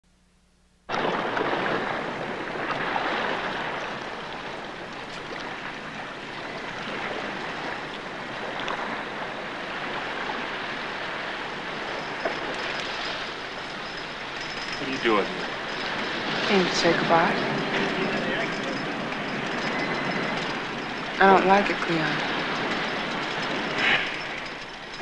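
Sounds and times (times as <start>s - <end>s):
surf: 0.9s - 25.0s
wind: 0.9s - 25.0s.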